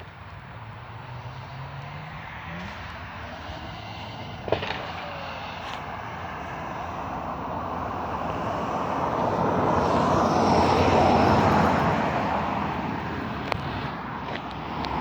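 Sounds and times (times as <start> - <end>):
road vehicle passing by: 0.0 - 15.0.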